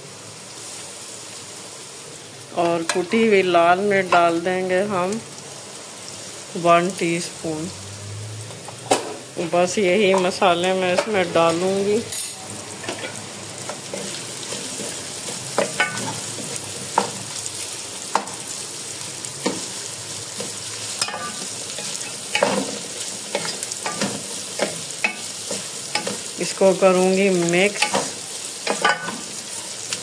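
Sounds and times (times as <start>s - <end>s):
vegetables sizzling in a pot: 0.0s - 30.0s.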